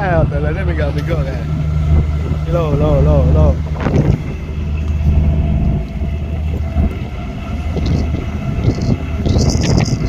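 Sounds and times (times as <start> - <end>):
ship engines droning: 0.0 - 10.0.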